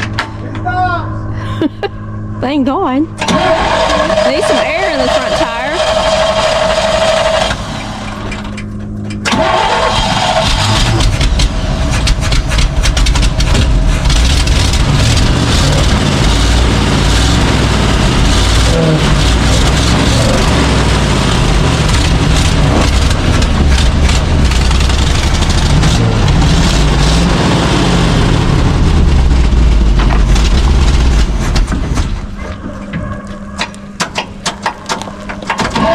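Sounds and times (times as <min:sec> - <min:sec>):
truck engine running loudly: 0:01.4 - 0:35.9.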